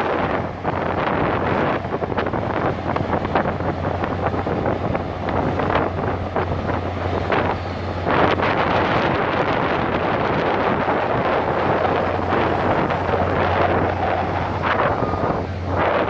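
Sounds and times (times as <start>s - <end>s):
steady low hum: 0.0s - 16.0s
wind buffeting microphone: 0.0s - 16.0s.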